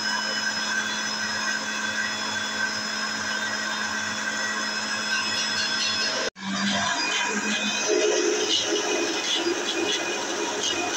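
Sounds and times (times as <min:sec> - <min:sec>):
mixer motor whining: 0:00.0 - 0:10.9.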